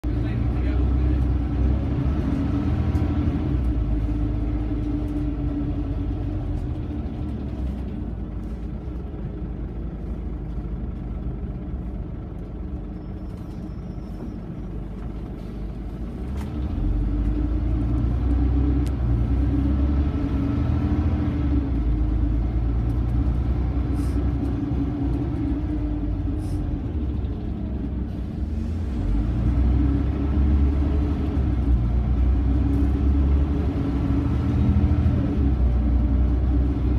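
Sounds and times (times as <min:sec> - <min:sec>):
bus diesel engine rumbling: 0:00.0 - 0:36.9.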